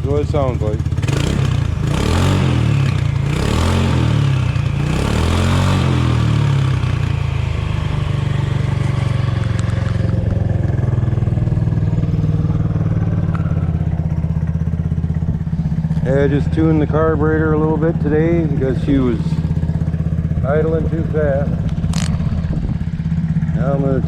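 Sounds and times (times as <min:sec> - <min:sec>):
scooter engine revving and idling: 0:00.0 - 0:24.0.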